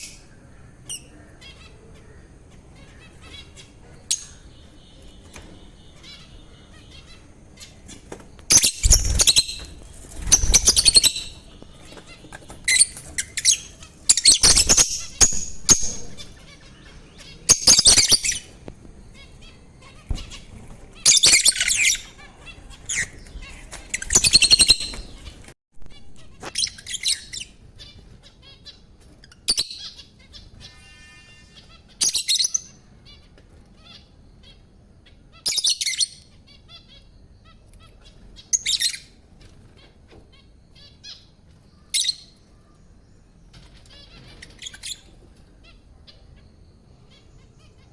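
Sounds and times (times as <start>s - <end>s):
lovebirds chirping and screeching: 0.0s - 47.9s.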